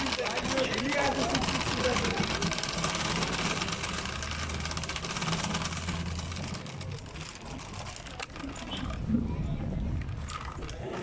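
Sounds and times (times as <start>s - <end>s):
vehicle engine humming: 0.0s - 9.1s.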